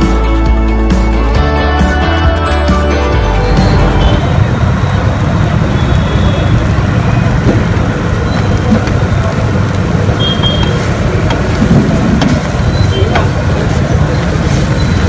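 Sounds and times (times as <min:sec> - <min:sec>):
low rumbling noise: 0:02.9 - 0:15.0.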